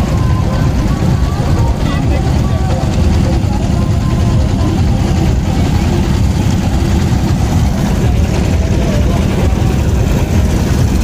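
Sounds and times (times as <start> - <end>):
boat engine rumbling: 0.0 - 11.0
faint voices: 0.0 - 11.0.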